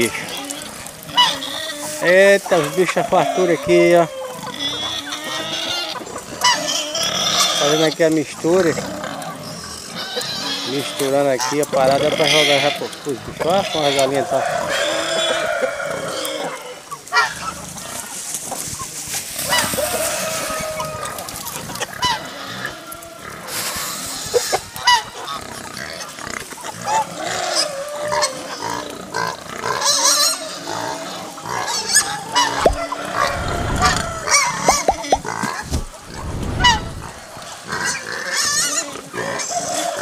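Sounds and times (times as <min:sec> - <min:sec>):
pigs squealing: 0:00.0 - 0:18.2, 0:19.4 - 0:40.0
chickens calling: 0:00.0 - 0:40.0.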